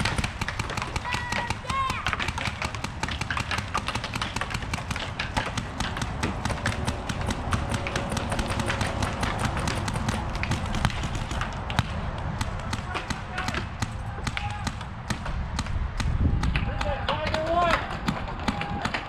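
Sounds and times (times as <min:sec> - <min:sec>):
paintball markers firing pops: 0:00.0 - 0:19.0.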